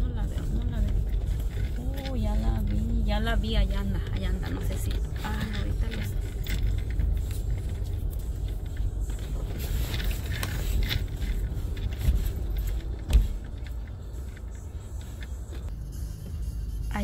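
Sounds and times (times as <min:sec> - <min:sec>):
tyres rumbling on dirt road: 0:00.0 - 0:17.0.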